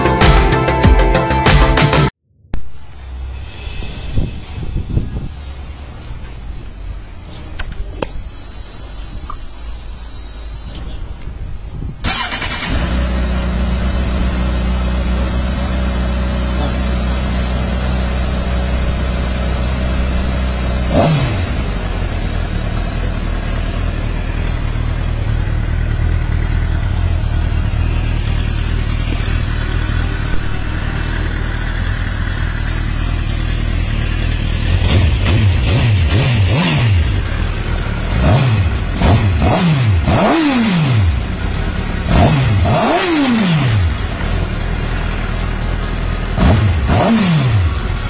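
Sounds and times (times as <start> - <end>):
motorcycle engine starting and idling: 5.8 - 48.0.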